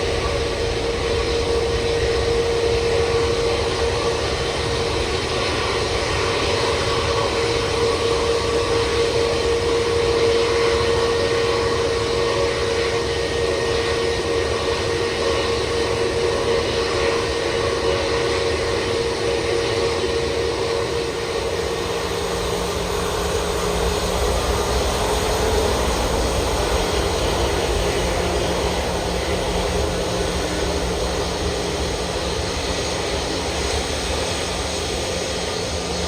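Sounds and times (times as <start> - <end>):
jet engines rushing: 0.0 - 36.0.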